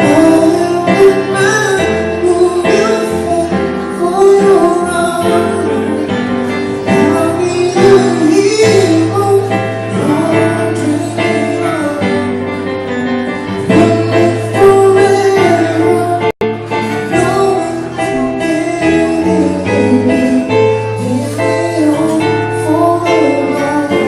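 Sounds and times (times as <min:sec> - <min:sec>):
live acoustic music: 0:00.0 - 0:24.0
person singing: 0:00.0 - 0:24.0.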